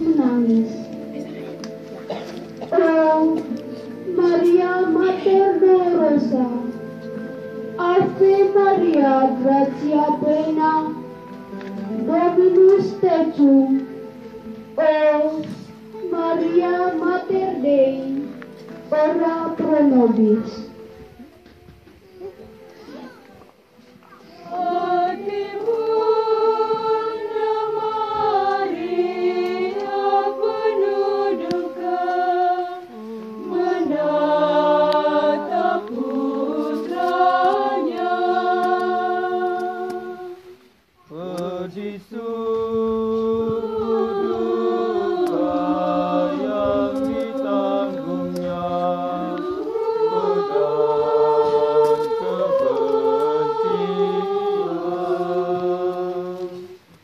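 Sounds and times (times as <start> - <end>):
choir singing long notes: 0.0 - 21.3, 22.1 - 57.0.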